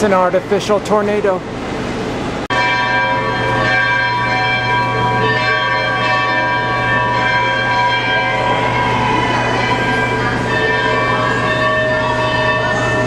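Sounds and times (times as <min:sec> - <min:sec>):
steady low hum: 0:00.0 - 0:13.0
overlapping bell-like ringing tones: 0:02.5 - 0:13.0.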